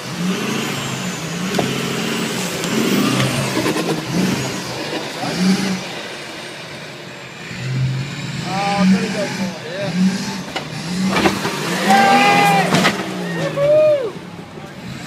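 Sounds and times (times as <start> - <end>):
pickup engine revving: 0.0 - 15.0.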